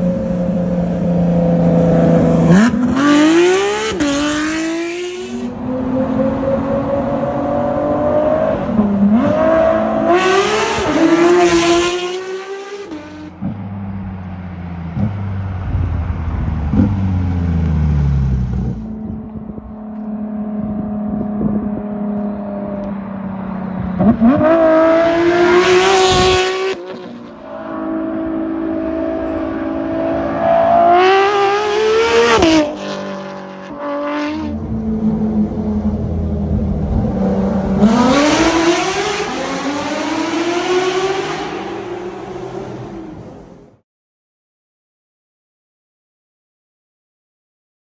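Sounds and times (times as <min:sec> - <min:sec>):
car engine full-throttle revving: 0:00.0 - 0:13.7, 0:14.9 - 0:43.4.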